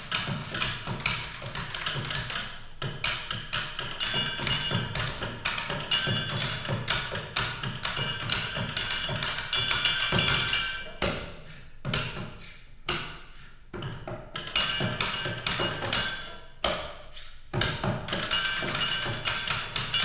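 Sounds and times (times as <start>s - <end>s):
percussion on office supplies: 0.0s - 20.0s.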